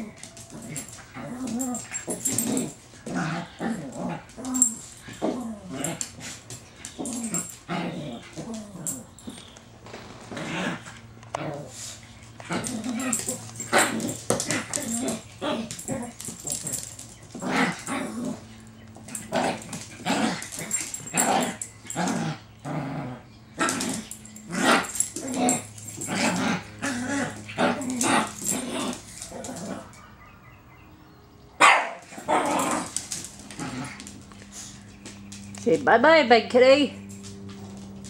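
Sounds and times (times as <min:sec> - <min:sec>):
small dog growling and barking: 0:00.0 - 0:30.0, 0:31.6 - 0:34.8.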